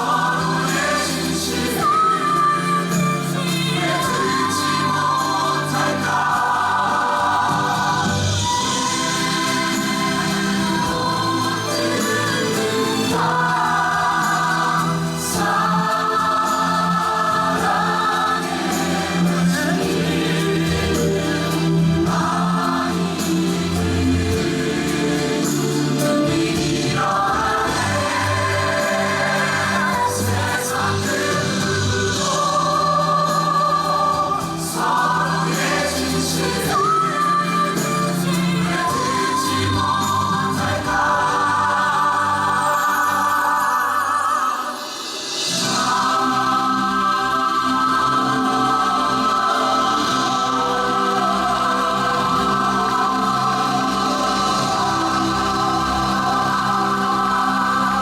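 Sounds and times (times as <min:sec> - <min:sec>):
ensemble singing in chorus: 0:00.0 - 0:58.0
musical accompaniment: 0:00.0 - 0:58.0
orchestra playing: 0:00.0 - 0:58.0.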